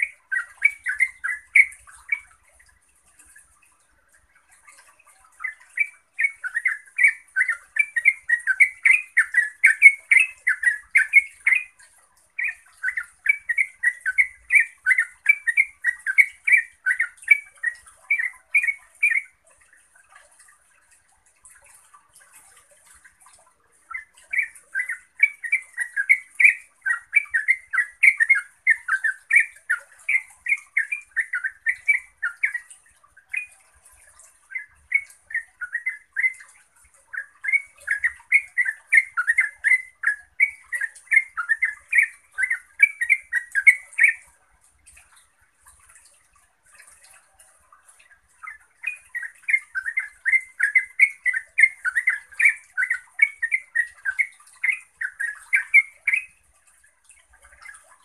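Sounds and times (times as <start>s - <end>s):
bird singing bubbling chirps: 0.0s - 58.0s.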